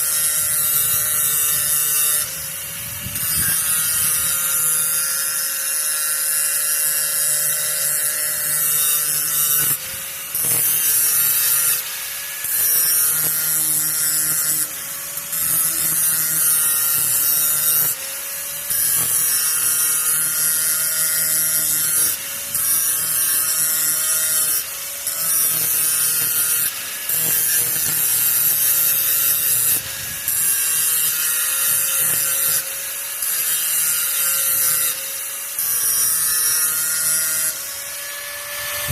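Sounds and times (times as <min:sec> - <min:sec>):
grinder motor whine: 0:00.0 - 0:38.9
grinding hiss on metal: 0:00.0 - 0:38.9.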